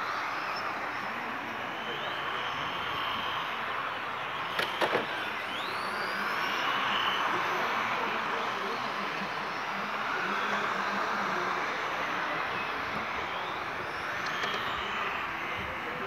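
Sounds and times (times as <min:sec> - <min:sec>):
model truck motors whining: 0:00.0 - 0:16.0.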